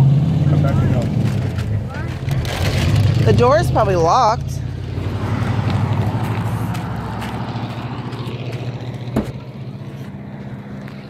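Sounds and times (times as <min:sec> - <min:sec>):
minivan engine idling: 0:00.6 - 0:11.0.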